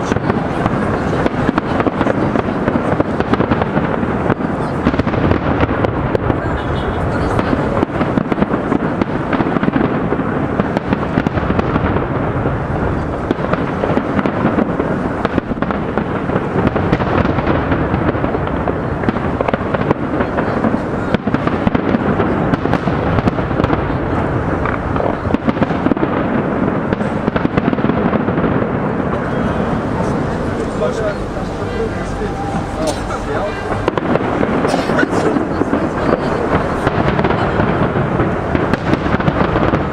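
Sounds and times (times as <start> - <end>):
fireworks bursts and crackling bangs: 0.0 - 39.9.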